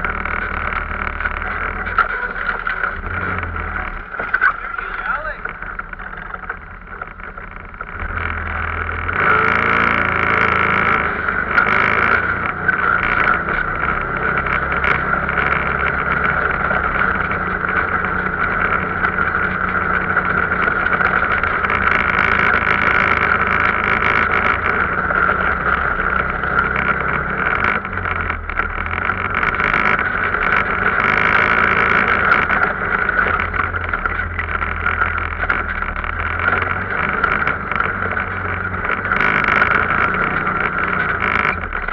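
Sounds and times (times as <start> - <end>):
off-road vehicle engine droning: 0.0 - 41.9.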